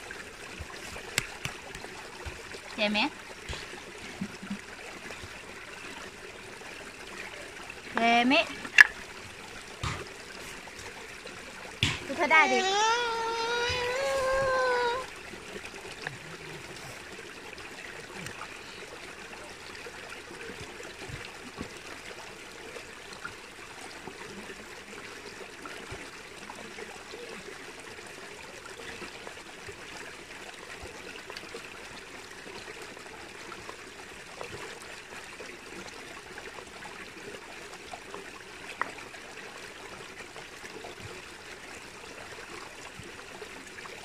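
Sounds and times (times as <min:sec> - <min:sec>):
stream running: 0:00.0 - 0:44.0.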